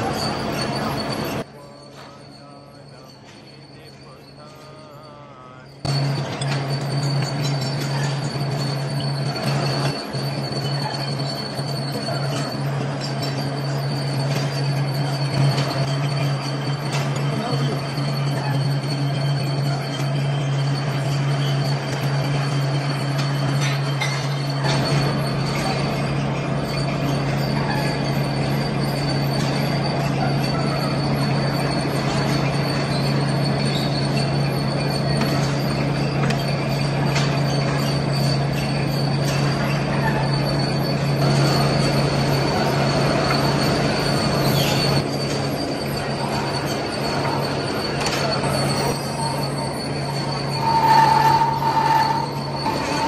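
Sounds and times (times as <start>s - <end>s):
lathe cutting metal: 0.0s - 53.0s
machine squeal: 0.0s - 53.0s.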